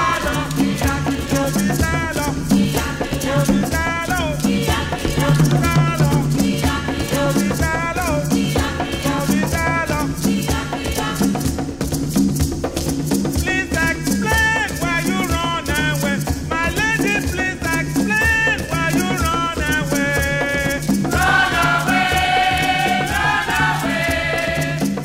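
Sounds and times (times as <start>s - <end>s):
shaker rhythm: 0.0s - 25.0s.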